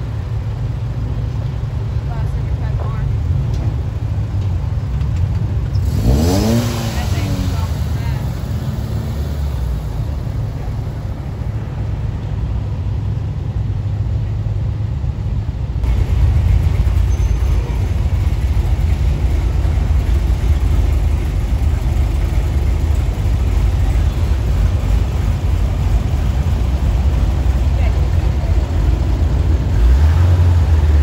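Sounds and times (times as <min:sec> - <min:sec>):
car engines rumbling: 0:00.0 - 0:31.0.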